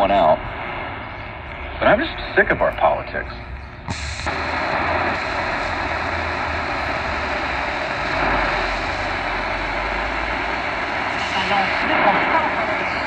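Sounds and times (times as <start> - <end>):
radio static rushing: 0.0 - 13.0.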